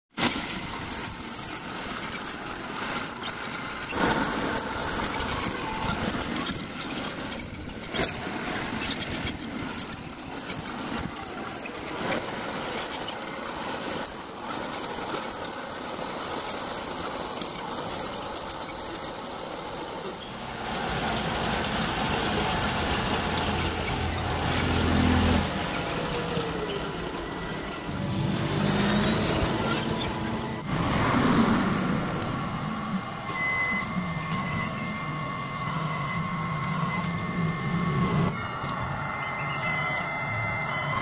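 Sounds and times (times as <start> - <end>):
metal tracks clattering and squeaking: 0.1 - 30.7, 31.5 - 41.0.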